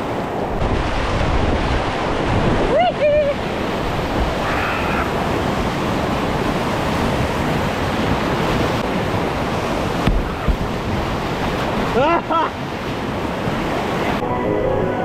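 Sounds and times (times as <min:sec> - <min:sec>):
water splashing against hull: 0:00.0 - 0:14.2
whitewater rushing: 0:00.0 - 0:15.0.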